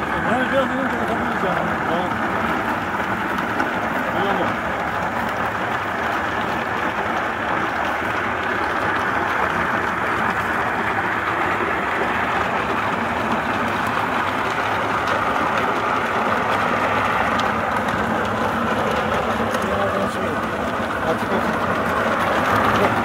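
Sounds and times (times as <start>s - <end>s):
hulling machine churning: 0.0s - 23.0s.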